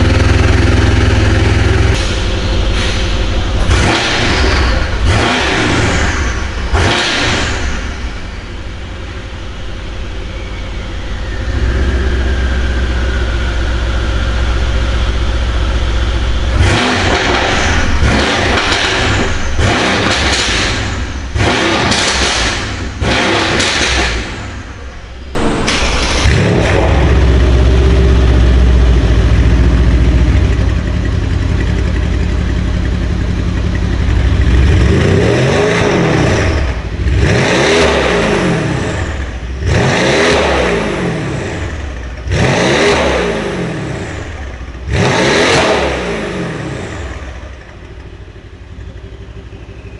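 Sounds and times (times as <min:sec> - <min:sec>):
loud car engine revving: 0:00.0 - 0:49.8.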